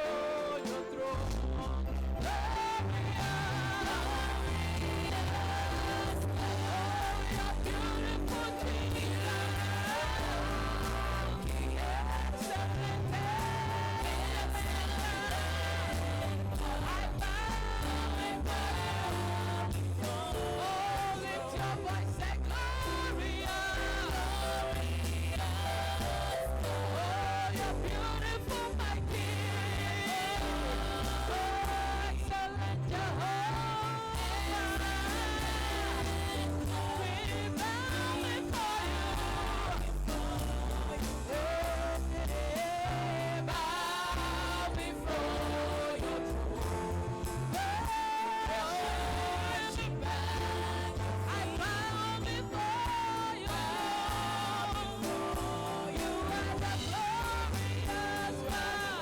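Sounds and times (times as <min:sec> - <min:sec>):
band with steady bass line: 0:00.0 - 0:59.0
person singing: 0:00.0 - 0:59.0.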